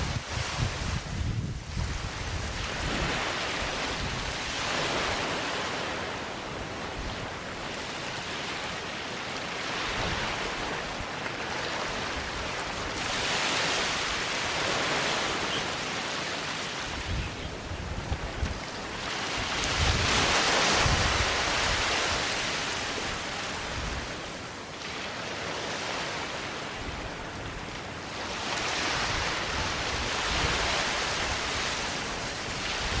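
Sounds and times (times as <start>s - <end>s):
waves washing onto sandy beach: 0.0s - 33.0s.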